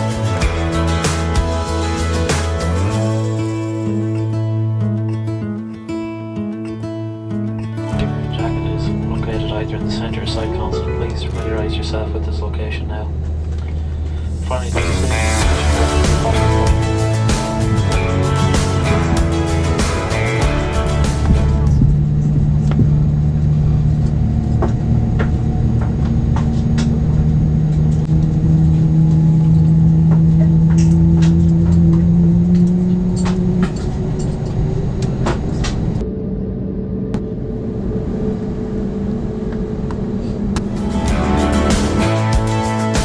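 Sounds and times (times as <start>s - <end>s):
jet engines rumbling: 8.1s - 43.0s.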